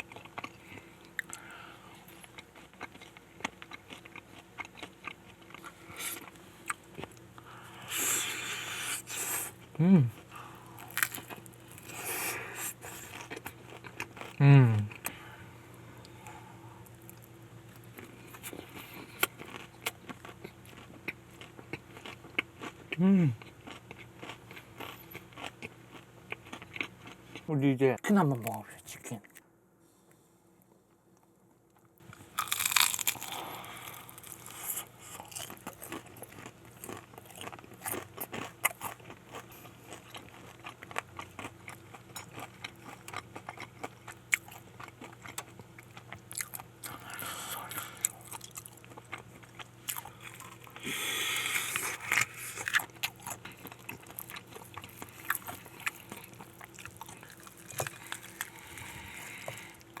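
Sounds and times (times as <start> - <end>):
crunchy chewing of fried chicken: 0.0 - 27.5, 31.8 - 60.0.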